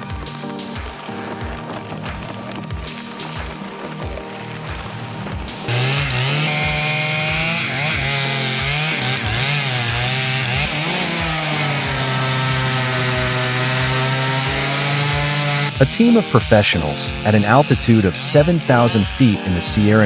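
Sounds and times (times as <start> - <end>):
chainsaw cutting tree: 0.0 - 20.0.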